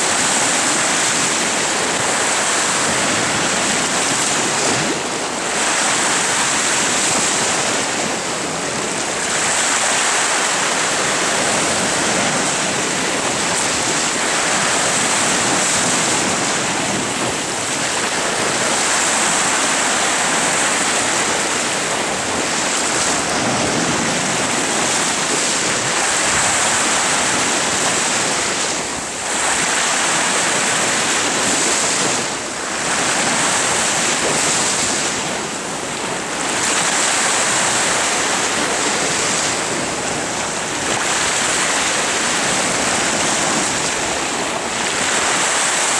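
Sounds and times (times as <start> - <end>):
sea waves washing: 0.0 - 45.9
wind buffeting microphone: 0.0 - 45.9.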